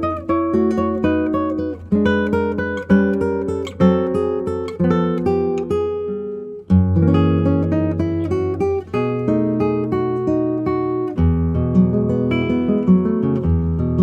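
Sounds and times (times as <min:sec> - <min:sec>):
plucked acoustic guitar music: 0:00.0 - 0:14.0.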